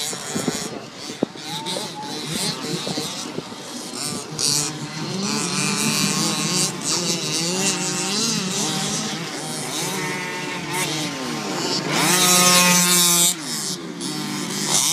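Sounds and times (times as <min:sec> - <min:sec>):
radio-controlled car motor revving: 0:00.0 - 0:14.9.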